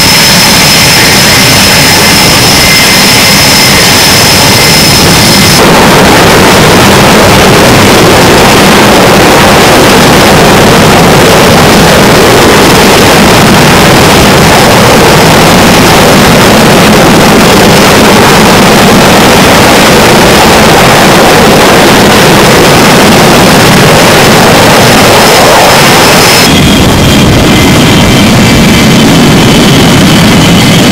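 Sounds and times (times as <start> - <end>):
jet engines running: 0.0 - 30.9.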